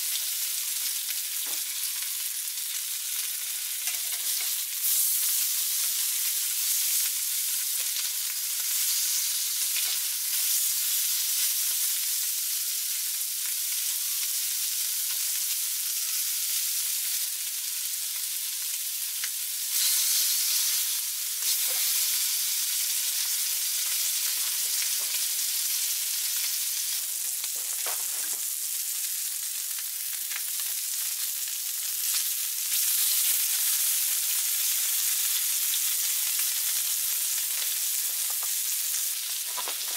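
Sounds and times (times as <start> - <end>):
meat sizzling on griddle: 0.0 - 39.9.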